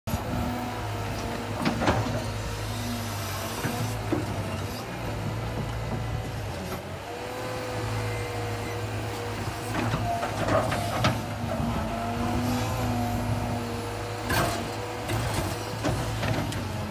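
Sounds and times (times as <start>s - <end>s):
excavator diesel engine: 0.1s - 16.9s.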